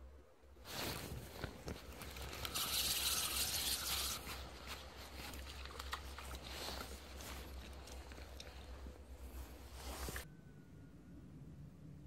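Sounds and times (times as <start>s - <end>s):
rustling and handling noise: 0.6s - 10.3s.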